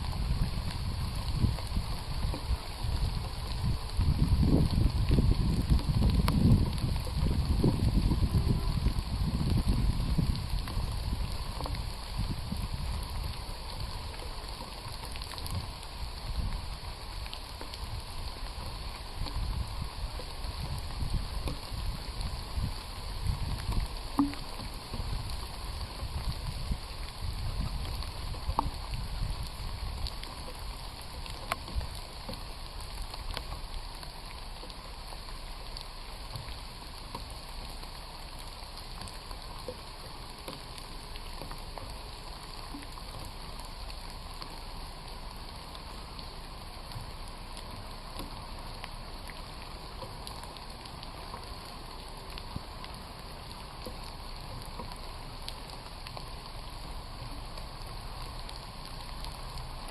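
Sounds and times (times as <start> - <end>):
raindrops ticking: 0.0 - 59.9
steady rain: 0.0 - 59.9.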